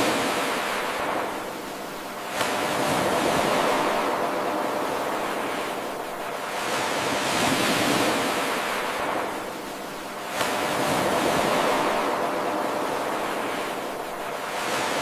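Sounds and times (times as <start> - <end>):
ocean surf washing in: 0.0 - 15.0.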